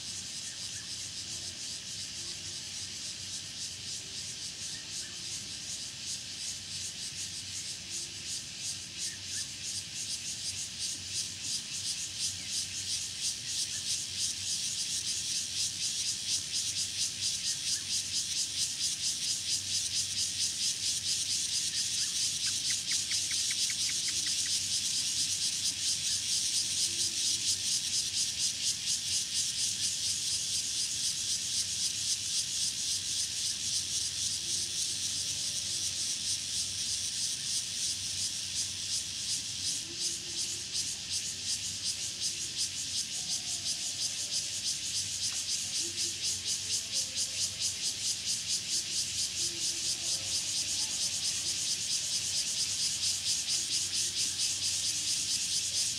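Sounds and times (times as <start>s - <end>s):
cicadas buzzing: 0.0s - 55.9s
faint insect chirps: 0.0s - 55.9s.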